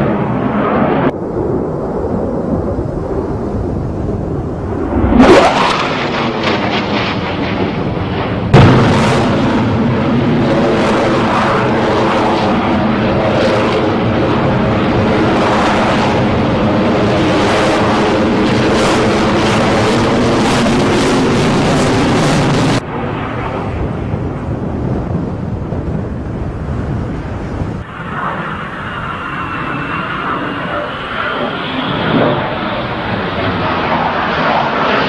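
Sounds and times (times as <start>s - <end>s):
jet engines roaring overhead: 0.0s - 35.0s.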